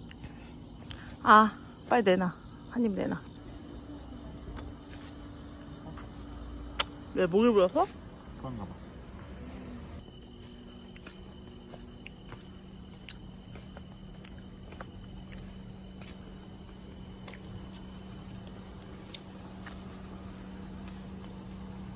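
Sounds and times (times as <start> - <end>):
insects chirping: 0.0 - 21.9.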